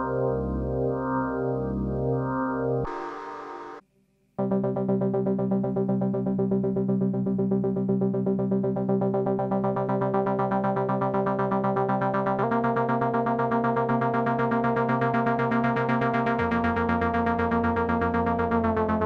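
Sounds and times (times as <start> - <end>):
synthesizer pulsing chords: 0.0 - 3.8, 4.4 - 19.0.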